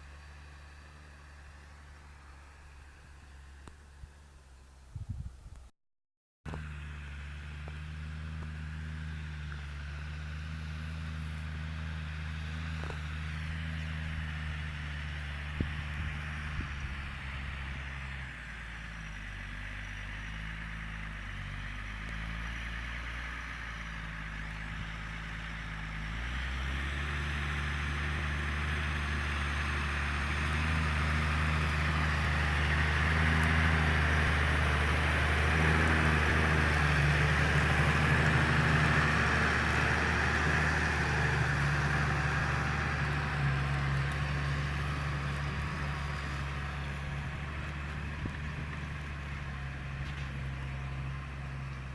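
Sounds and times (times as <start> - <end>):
tractor engine under load: 0.0 - 4.9, 6.5 - 51.9.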